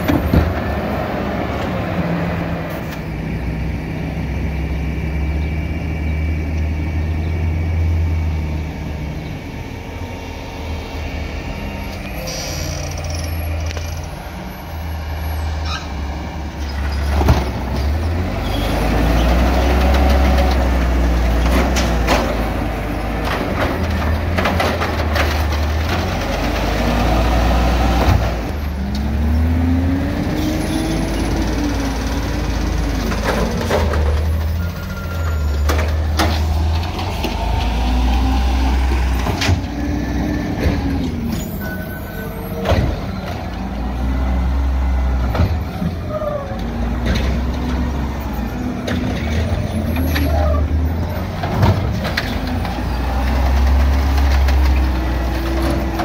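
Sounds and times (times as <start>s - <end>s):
garbage truck engines rumbling: 0.0s - 56.0s.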